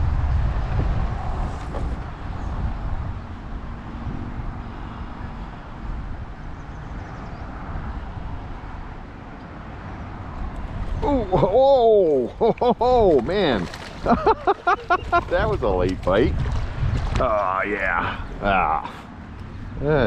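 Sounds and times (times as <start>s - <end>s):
wind buffeting microphone: 0.0s - 9.2s, 10.1s - 20.0s.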